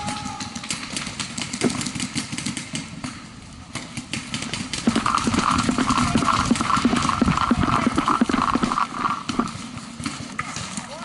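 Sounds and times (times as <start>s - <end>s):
paintball markers firing: 0.0s - 10.9s.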